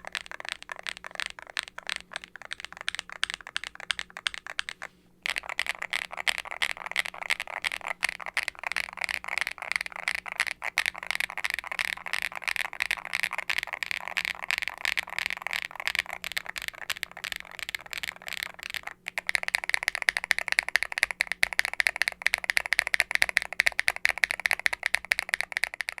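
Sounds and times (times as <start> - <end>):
fast typing on mechanical keyboard: 0.0 - 26.0.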